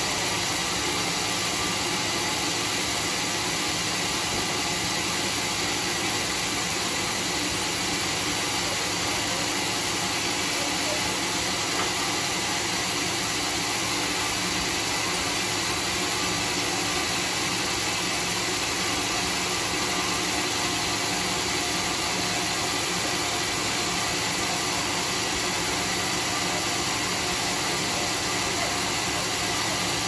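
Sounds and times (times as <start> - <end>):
band sawmill sawing log: 0.0 - 30.0.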